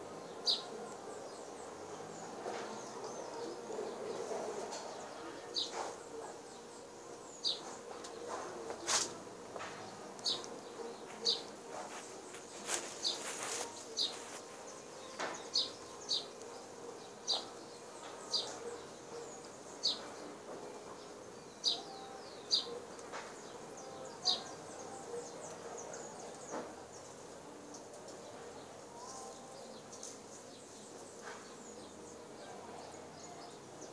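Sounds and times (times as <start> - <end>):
bird chirping: 0.2 - 8.4, 10.2 - 20.3, 20.9 - 33.9.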